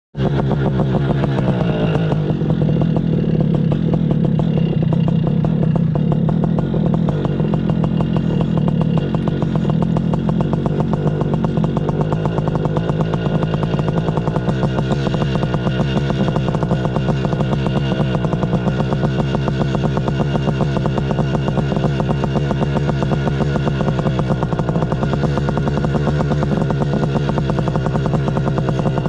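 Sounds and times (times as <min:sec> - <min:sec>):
paramotor engine running: 0:00.2 - 0:29.0.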